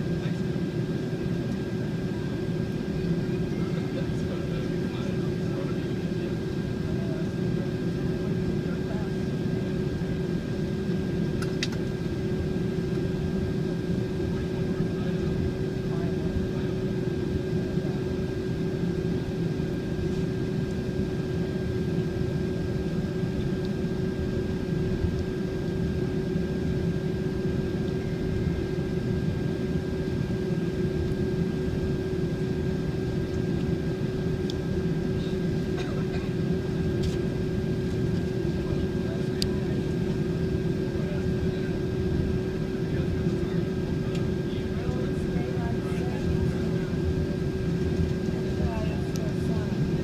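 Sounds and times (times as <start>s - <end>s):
airplane cabin engine rumble: 0.0s - 50.0s.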